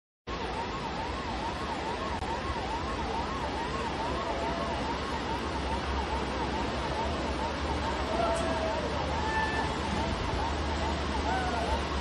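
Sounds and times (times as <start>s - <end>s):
siren wailing: 0.3s - 12.0s
steady rushing noise: 0.3s - 12.0s.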